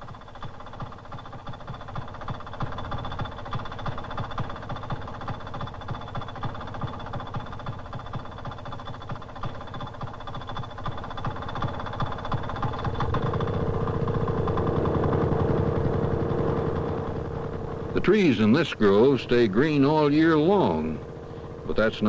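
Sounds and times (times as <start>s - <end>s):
small engine pulsing: 0.0s - 22.0s.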